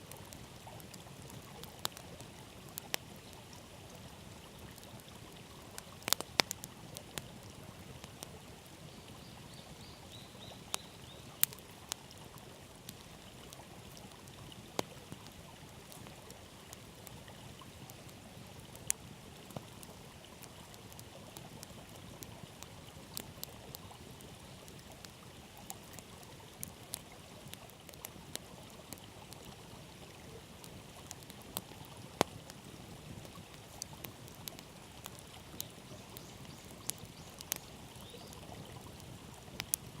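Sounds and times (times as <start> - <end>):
campfire crackling and popping: 0.0 - 9.2, 10.0 - 40.0
river flowing: 0.1 - 40.0.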